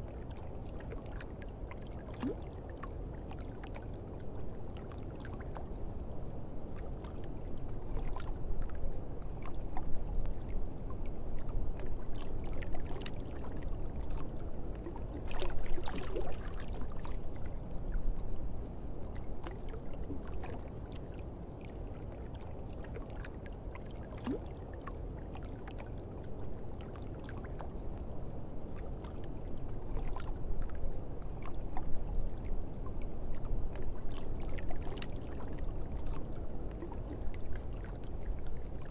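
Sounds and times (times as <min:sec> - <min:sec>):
low rumbling water-like noise: 0:00.0 - 0:38.9.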